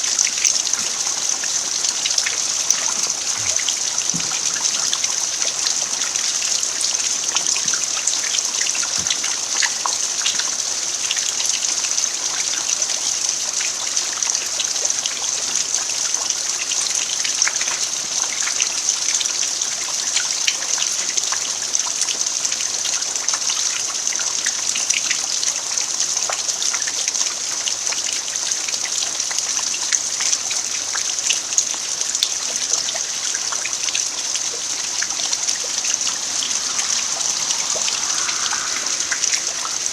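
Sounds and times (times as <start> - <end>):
rain falling on dirt: 0.0 - 39.9
water trickling: 0.0 - 39.9.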